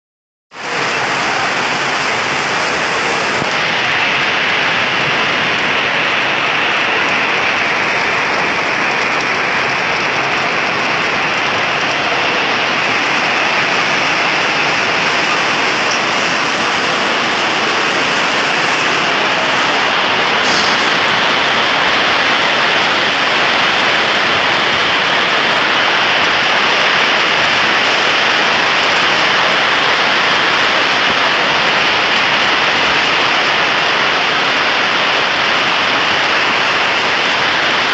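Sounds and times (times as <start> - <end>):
heavy rain falling: 0.5 - 37.9.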